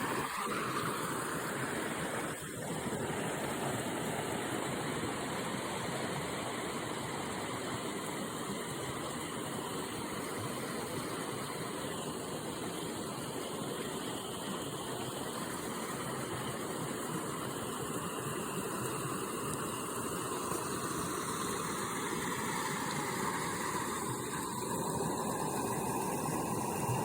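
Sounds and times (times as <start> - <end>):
river water flowing over rocks: 0.0 - 27.0.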